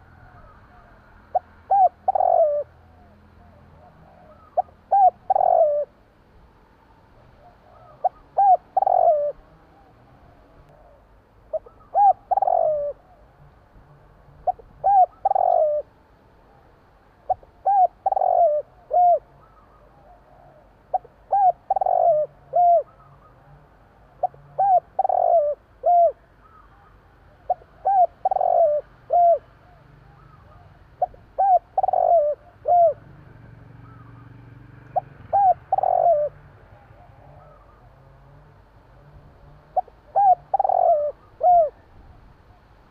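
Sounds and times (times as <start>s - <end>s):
dove cooing: 0.0s - 6.0s, 7.0s - 42.9s.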